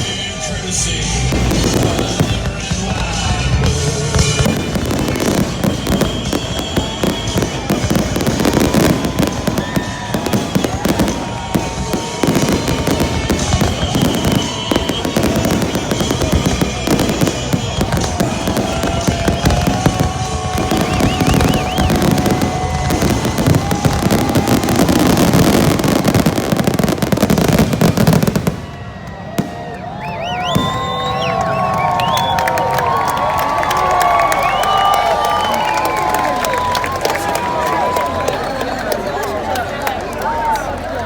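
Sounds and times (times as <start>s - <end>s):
crowd cheering and whistling: 0.0s - 41.0s
fireworks bangs and crackles: 0.0s - 41.0s.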